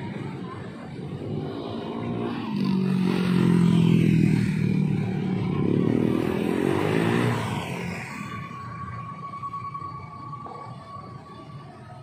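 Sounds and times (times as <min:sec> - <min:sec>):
motorcycle engines passing by: 0:00.0 - 0:11.7.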